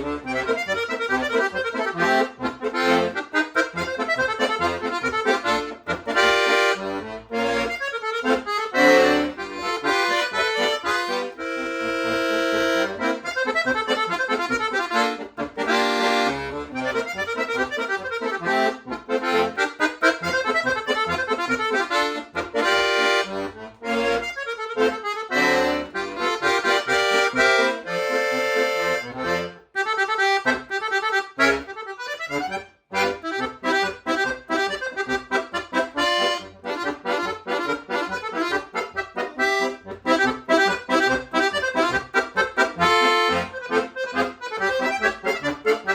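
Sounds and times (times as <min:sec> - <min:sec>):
accordion playing: 0:00.0 - 0:45.9.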